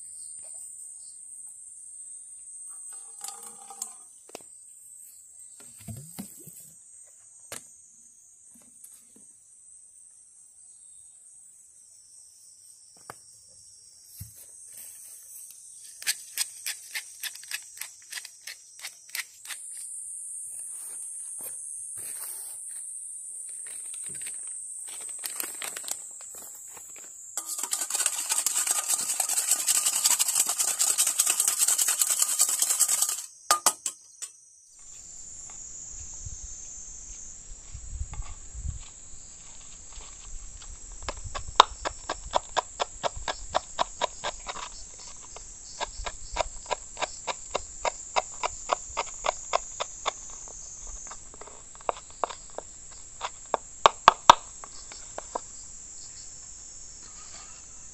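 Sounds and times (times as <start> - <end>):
high insect drone: 1.0 - 40.9, 44.7 - 57.9.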